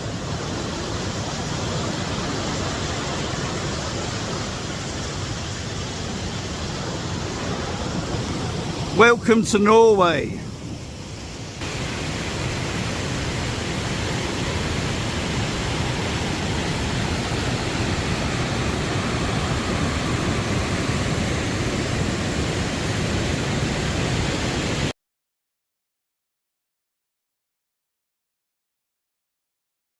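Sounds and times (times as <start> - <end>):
waterfall rushing water: 0.0 - 24.9.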